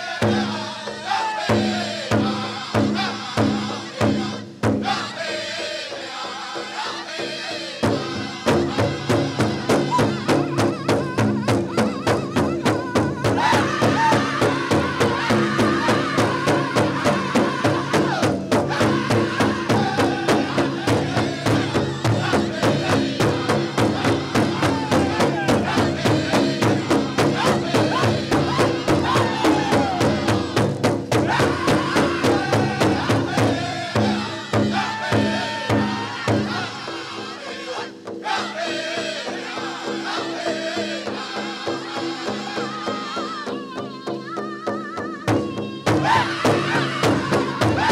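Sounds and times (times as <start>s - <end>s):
big drum steady beat: 0.0s - 47.9s
group singing: 0.0s - 47.9s.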